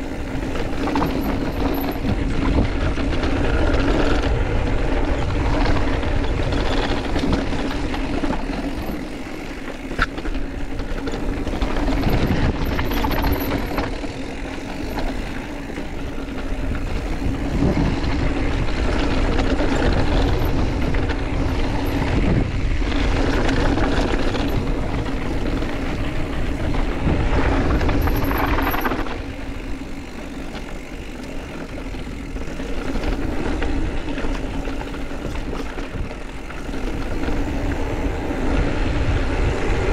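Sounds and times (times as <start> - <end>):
bike tyres rolling: 0.0 - 39.9
wind rushing over microphone: 0.0 - 39.9.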